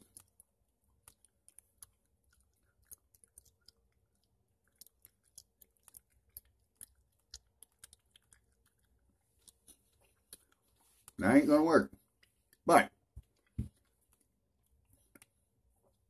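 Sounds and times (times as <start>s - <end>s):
person chewing gummy candy: 0.0s - 11.2s, 11.9s - 16.0s.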